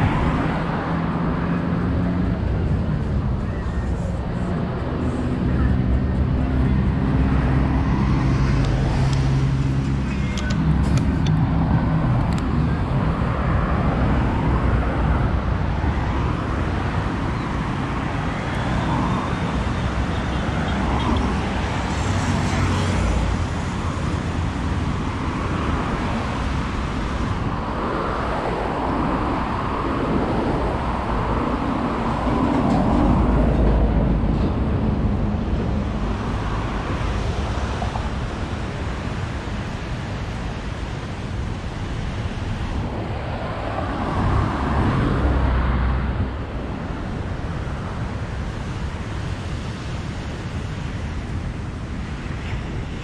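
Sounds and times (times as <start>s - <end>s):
loud vehicle passing: 0.0s - 53.0s
traffic noise: 0.0s - 53.0s.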